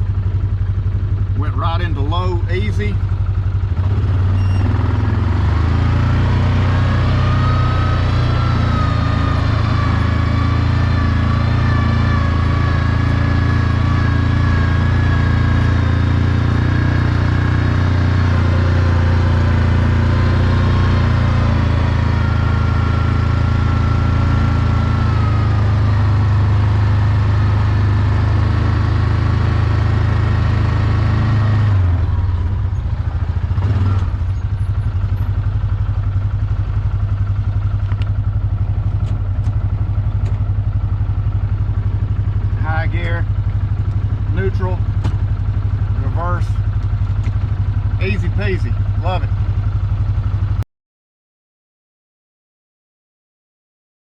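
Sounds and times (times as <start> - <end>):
engine whine: 0.0 - 50.6
utility vehicle engine droning: 0.0 - 50.6.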